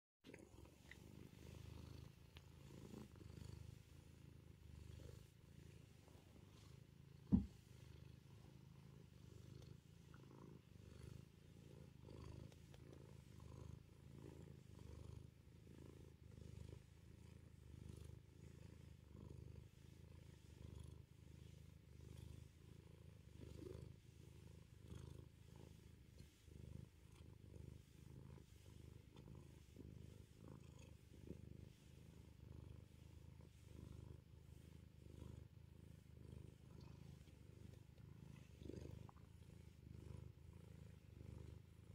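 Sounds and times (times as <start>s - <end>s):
cat purring: 0.2s - 41.9s.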